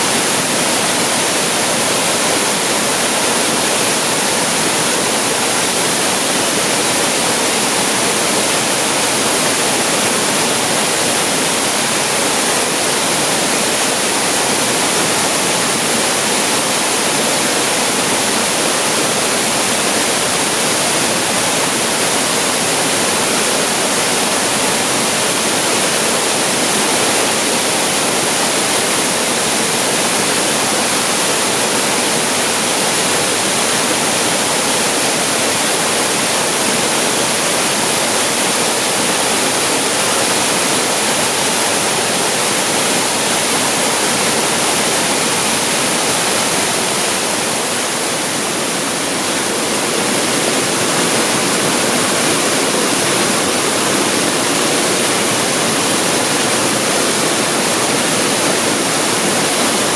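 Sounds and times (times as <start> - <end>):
waterfall pouring: 0.0 - 59.9.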